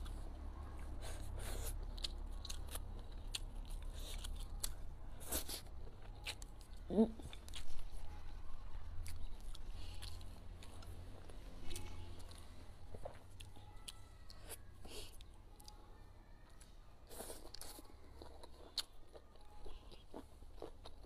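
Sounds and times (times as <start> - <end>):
crunchy wet chewing: 0.0 - 21.0.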